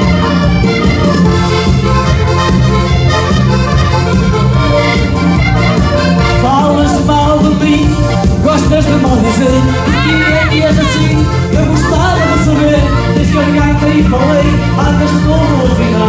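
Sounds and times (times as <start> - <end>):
live band dance music: 0.0 - 16.0.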